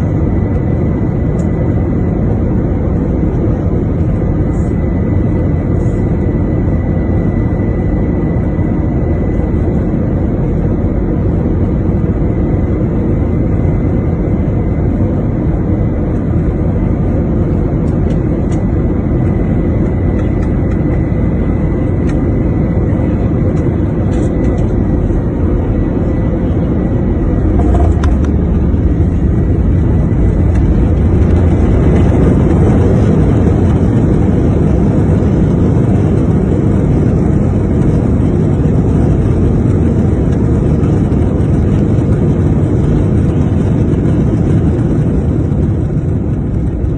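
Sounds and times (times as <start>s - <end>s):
faint high whine: 0.0s - 39.3s
airliner engine and airflow rush: 0.0s - 46.9s.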